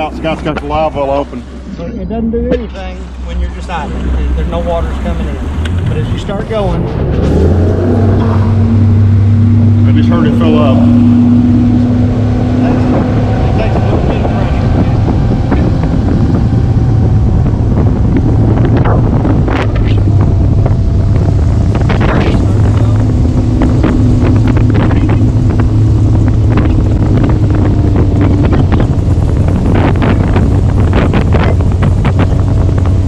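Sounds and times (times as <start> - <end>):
outboard engine hum: 0.0 - 33.0
wind buffeting microphone: 0.0 - 33.0.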